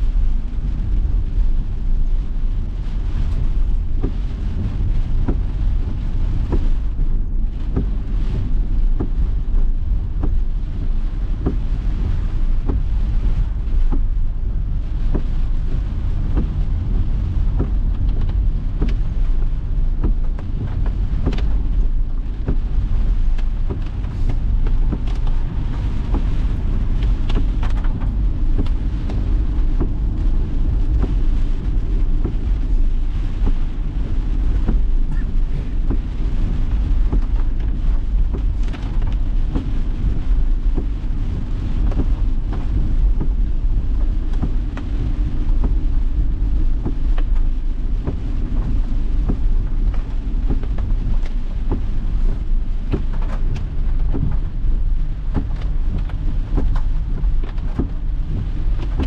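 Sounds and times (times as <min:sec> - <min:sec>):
raindrops pattering on windshield: 0:00.0 - 0:59.0
road and engine rumble: 0:00.0 - 0:59.0.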